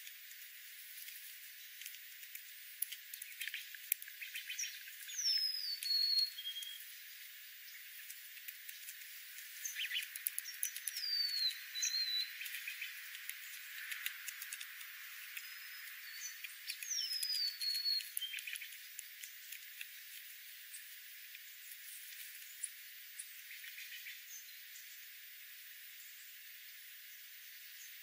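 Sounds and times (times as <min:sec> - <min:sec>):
birds chipping and chattering: 0:00.0 - 0:28.0.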